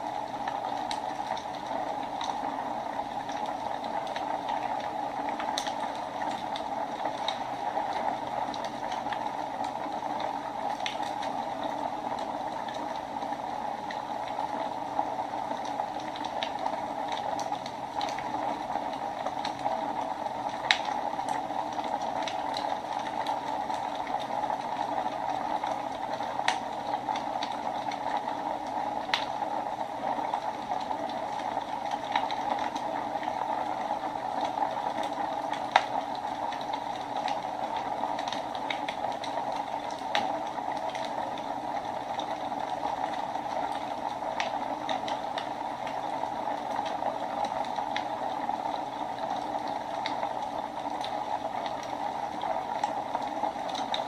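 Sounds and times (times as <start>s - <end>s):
fire crackles and pops: 0.0s - 54.0s.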